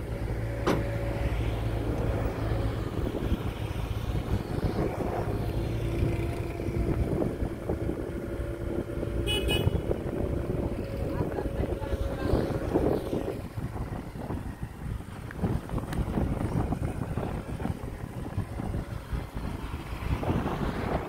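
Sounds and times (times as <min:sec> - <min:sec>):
excavator diesel engine: 0:00.0 - 0:21.0.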